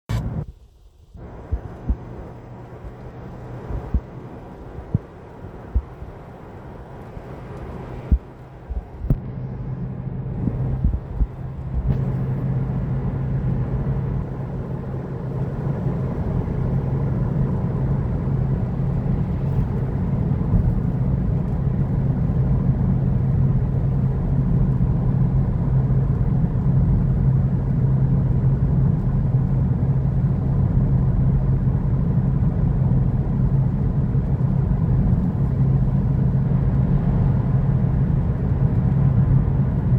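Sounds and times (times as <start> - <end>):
engine hum and rumble: 0.0 - 39.9.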